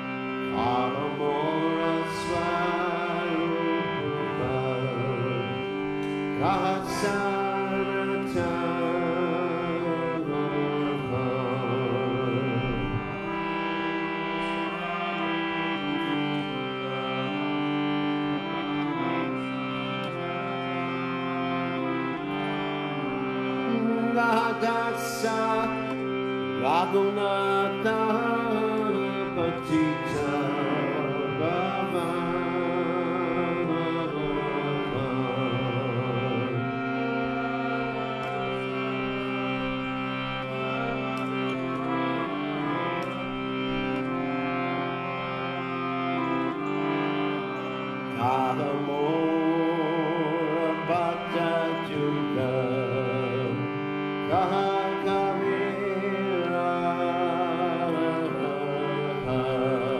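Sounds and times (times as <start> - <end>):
man singing: 0.0 - 17.5, 20.1 - 43.0, 48.0 - 59.9
harmonium chords: 0.0 - 59.9.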